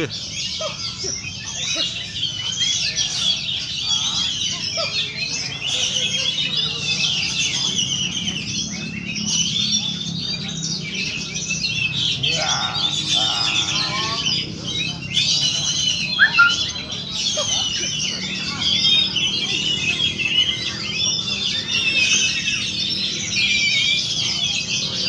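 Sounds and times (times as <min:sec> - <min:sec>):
songbird twittering: 0:00.0 - 0:25.0.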